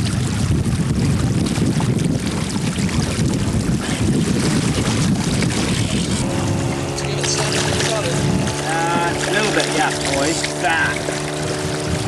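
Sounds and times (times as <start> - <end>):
running water: 0.0 - 12.0
wind rumbling on microphone: 0.0 - 12.0
fish splashing at surface: 1.1 - 12.0.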